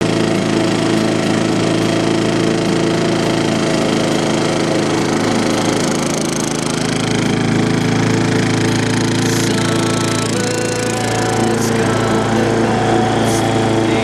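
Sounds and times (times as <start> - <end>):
lawnmower engine running: 0.0 - 14.0.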